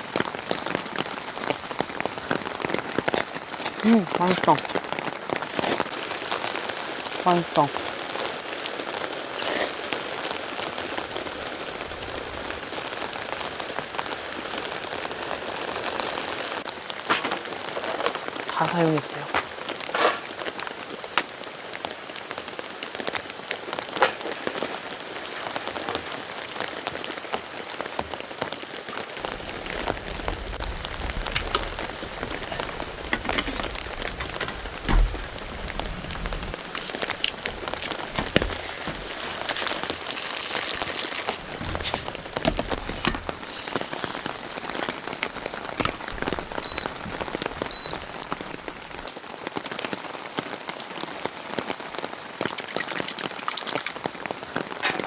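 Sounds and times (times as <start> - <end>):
heavy rain falling: 0.0 - 55.0
raindrops pattering close by: 0.0 - 55.0.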